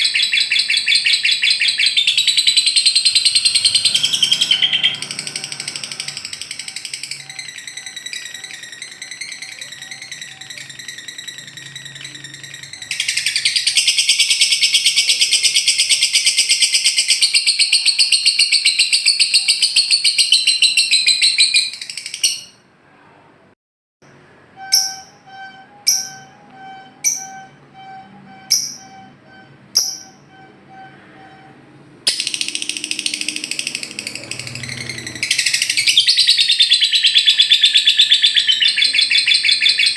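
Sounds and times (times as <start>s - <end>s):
buzzy bird call: 0.0s - 22.4s, 24.6s - 39.9s
bird chattering trill: 0.0s - 22.6s, 24.6s - 31.3s, 32.1s - 39.9s
sharp bird chirps: 0.0s - 22.6s, 24.6s - 31.4s, 32.1s - 39.9s.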